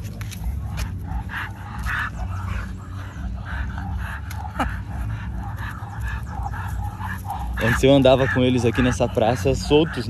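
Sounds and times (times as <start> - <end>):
dogs panting: 0.0 - 10.0
low rumble: 0.0 - 10.0.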